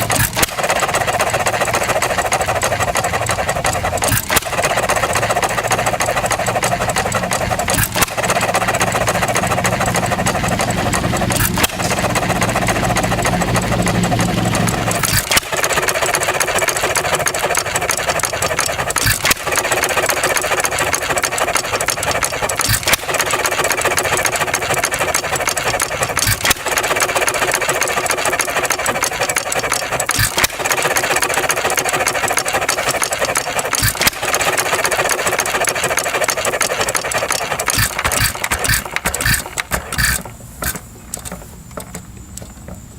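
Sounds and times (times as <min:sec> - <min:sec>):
hit-and-miss engine running: 0:00.0 - 0:42.9.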